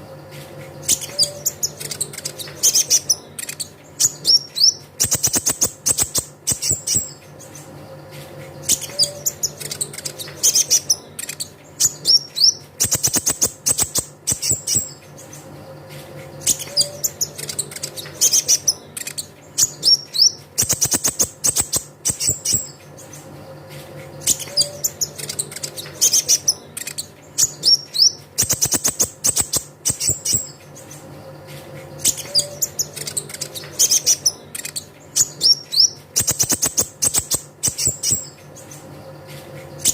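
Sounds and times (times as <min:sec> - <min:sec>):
bird song with sharp chirps and trills: 0:00.0 - 0:39.9.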